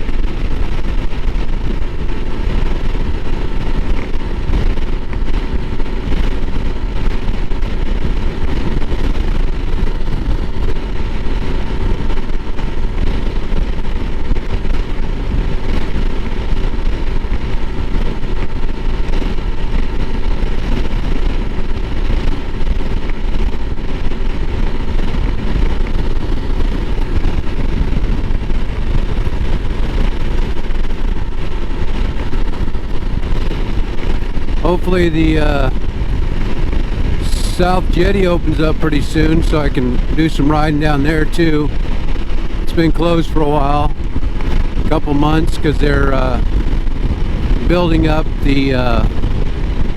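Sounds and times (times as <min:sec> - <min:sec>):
motorcycle engine running steadily: 0:00.0 - 0:49.9
rushing noise: 0:00.0 - 0:49.9.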